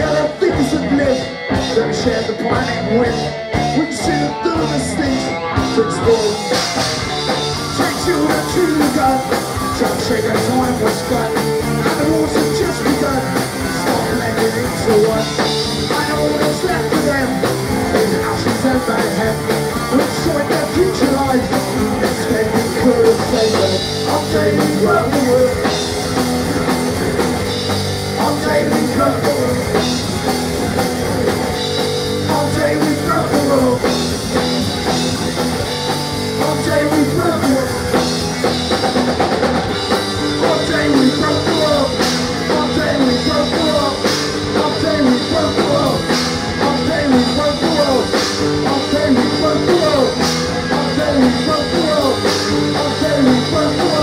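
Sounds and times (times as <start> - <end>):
lead vocal singing: 0.0 - 26.7, 27.5 - 38.5, 39.6 - 54.0
bass guitar: 0.0 - 54.0
drum kit: 0.0 - 54.0
electric guitar: 0.0 - 54.0.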